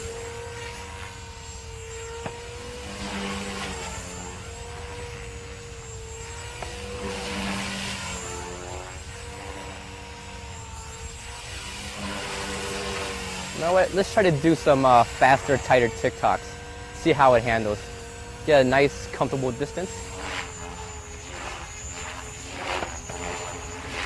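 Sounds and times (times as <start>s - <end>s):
rc helicopter motor and rotor whine: 0.0s - 24.0s.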